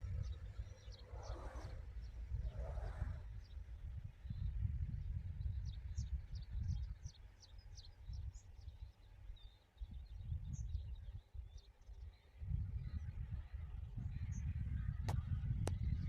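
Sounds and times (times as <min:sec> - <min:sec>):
small birds chirping: 0:00.0 - 0:15.0
wind on microphone: 0:00.0 - 0:16.0.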